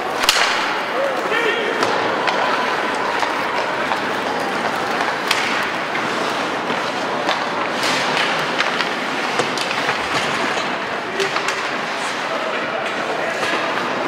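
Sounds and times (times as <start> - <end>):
arena noise: 0.0 - 14.0
sticks and puck clacking: 0.0 - 14.0
skate blades scraping ice: 0.1 - 14.0.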